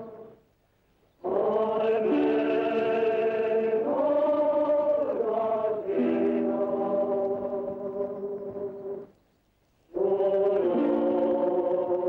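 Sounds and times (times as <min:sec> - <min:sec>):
film score with sustained chords: 0:01.2 - 0:09.1, 0:09.9 - 0:12.0.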